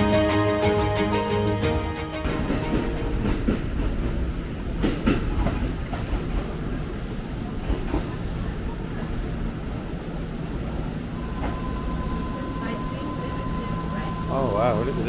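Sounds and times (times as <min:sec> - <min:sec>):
train wheels rumbling on track: 0:02.2 - 0:15.0.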